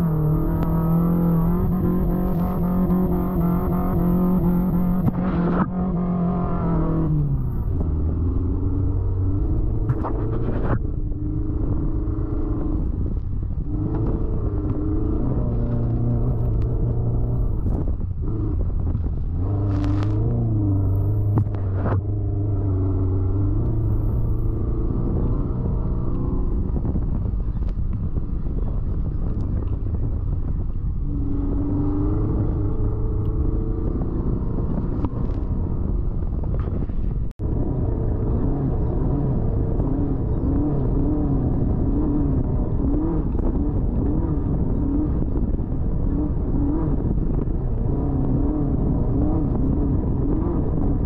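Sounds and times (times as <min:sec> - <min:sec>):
race car engine running under load: 0:00.0 - 0:51.0.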